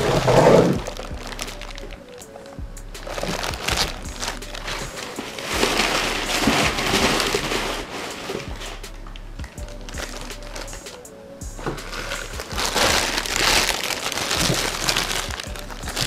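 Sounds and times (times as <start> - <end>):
plastic bag and paper crinkling: 0.0 - 2.5, 3.1 - 8.8, 9.7 - 11.0, 11.6 - 16.0.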